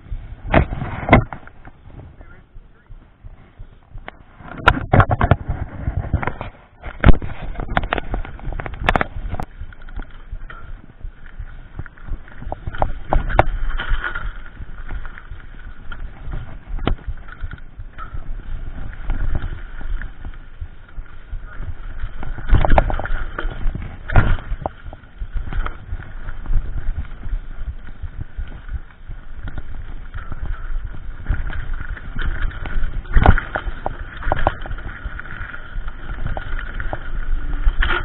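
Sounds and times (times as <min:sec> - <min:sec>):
bike clattering over bumps: 0:03.6 - 0:38.0
tyres rumbling over dirt: 0:04.2 - 0:38.0.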